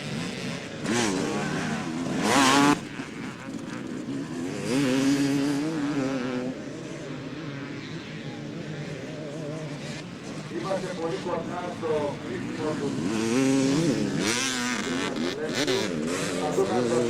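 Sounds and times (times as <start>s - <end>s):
motocross motorcycles revving: 0.0s - 17.0s.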